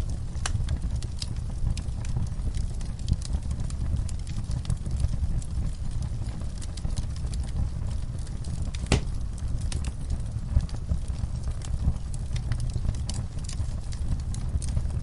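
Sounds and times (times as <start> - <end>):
fire rumbling in fireplace: 0.0 - 15.0
logs crackling and snapping: 0.0 - 15.0.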